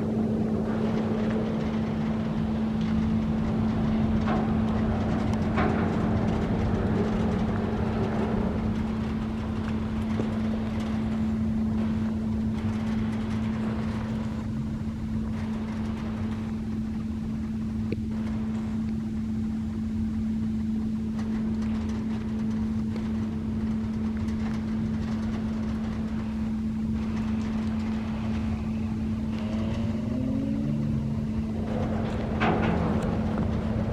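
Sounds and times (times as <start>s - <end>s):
low rumble: 0.0s - 33.9s
mechanical drone with low hum: 0.0s - 33.9s.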